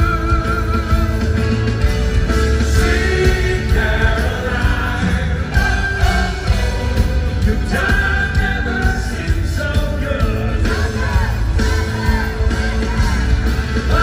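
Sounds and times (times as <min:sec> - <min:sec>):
bass guitar: 0:00.0 - 0:14.0
drums: 0:00.0 - 0:14.0
electric guitars: 0:00.0 - 0:14.0
lead and backing vocals: 0:00.0 - 0:14.0.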